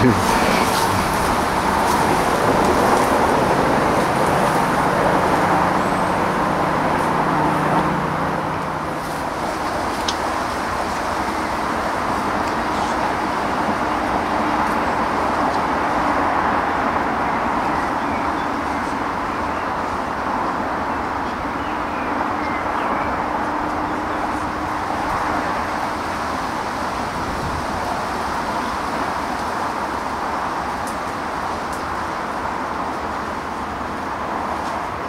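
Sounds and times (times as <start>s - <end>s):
distant road traffic roar: 0.0s - 35.0s
low engine hum: 0.0s - 35.0s.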